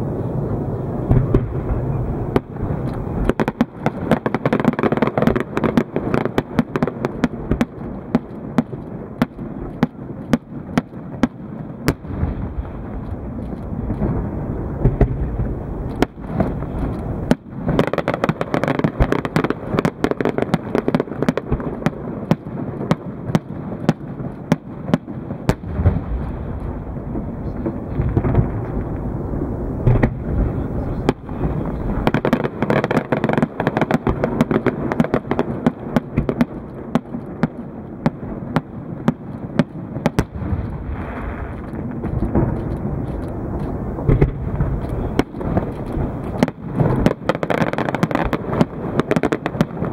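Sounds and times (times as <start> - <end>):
fireworks dense crackle: 0.0 - 49.9
fireworks sharp bangs: 0.0 - 49.9.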